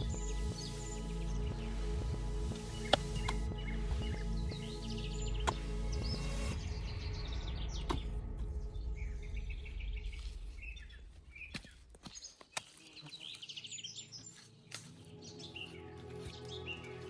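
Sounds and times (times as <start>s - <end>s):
small birds chirping: 0.0s - 7.9s, 8.7s - 17.0s.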